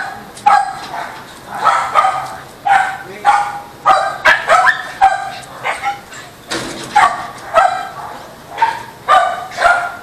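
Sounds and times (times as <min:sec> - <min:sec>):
dog barking high-pitched: 0:00.0 - 0:06.2, 0:06.9 - 0:10.0.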